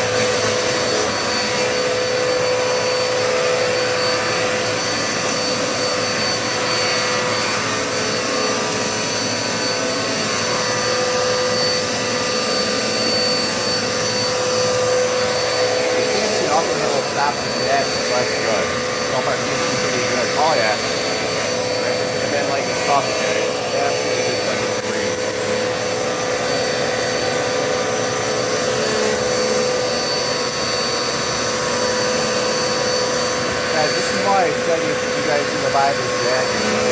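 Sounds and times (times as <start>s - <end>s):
high whining tones: 0.0s - 36.9s
upright vacuum cleaner running: 0.0s - 36.9s.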